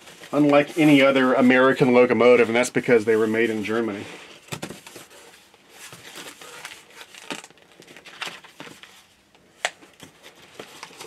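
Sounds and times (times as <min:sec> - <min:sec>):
packaging crinkling and rustling: 0:00.0 - 0:02.3, 0:04.4 - 0:11.0.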